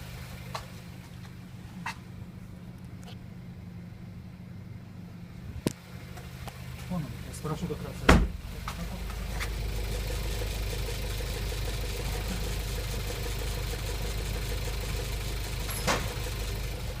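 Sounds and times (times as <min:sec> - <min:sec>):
car engine idling with knock: 0:00.0 - 0:17.0.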